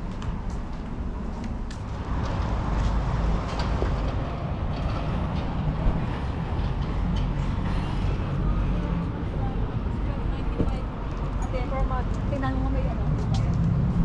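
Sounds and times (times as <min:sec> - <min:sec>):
heavy vehicle engine rumbling: 0:01.8 - 0:14.0.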